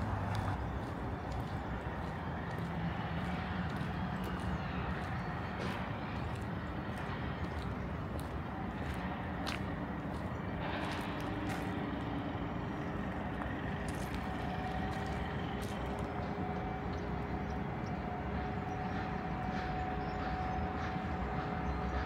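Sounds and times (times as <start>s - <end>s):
constant mechanical hum: 0.0s - 22.0s.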